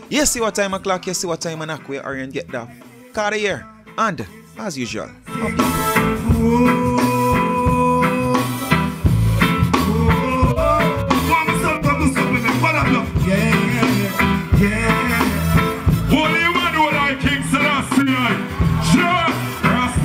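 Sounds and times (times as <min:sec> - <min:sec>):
live reggae band: 0:00.0 - 0:20.0
man singing into microphone: 0:00.2 - 0:09.0, 0:09.7 - 0:20.0.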